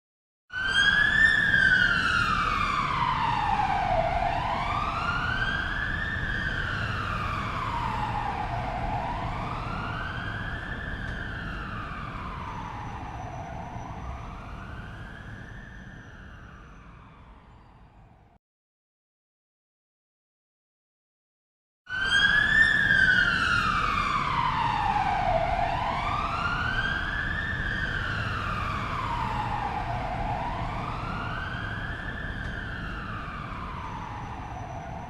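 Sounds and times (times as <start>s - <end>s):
police siren wailing: 0.5s - 18.3s, 21.9s - 35.0s.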